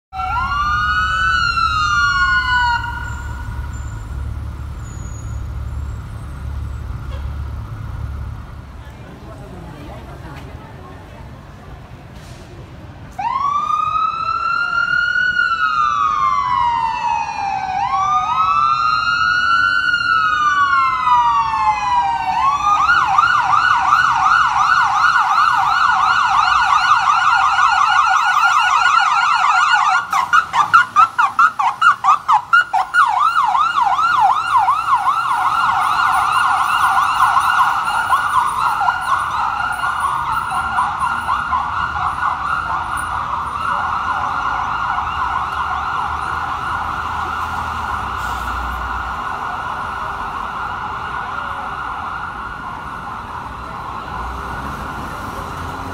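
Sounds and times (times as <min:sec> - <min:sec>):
fire engine siren: 0:00.1 - 0:09.5, 0:13.0 - 0:55.9.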